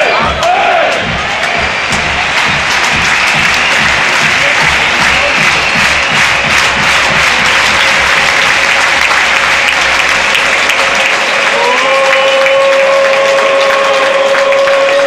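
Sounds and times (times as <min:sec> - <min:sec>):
stadium crowd cheering: 0:00.0 - 0:15.0.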